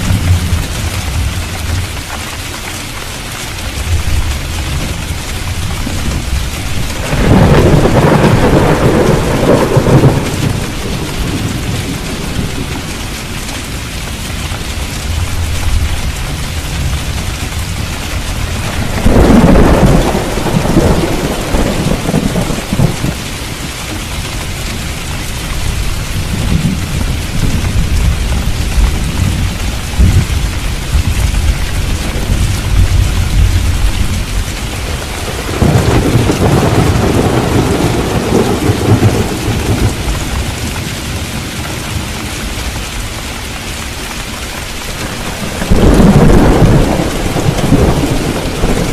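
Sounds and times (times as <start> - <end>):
steady rain falling: 0.0 - 48.9
thunder rumbling: 3.7 - 43.2, 44.5 - 48.9.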